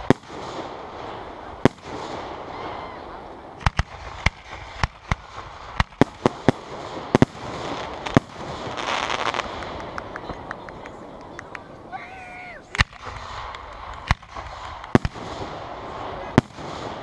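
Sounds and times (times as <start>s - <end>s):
firework bangs: 0.0s - 17.0s
firework crackling: 0.0s - 17.0s.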